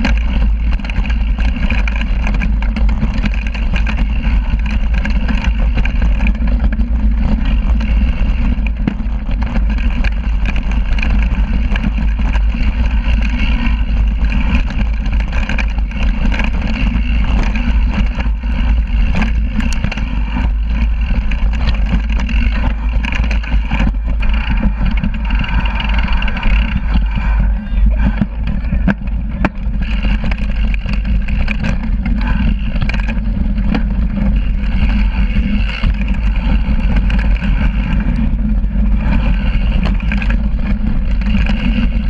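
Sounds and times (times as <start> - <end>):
bike rattling over bumps: 0.0 - 42.0
wind rumble on microphone: 0.0 - 42.0.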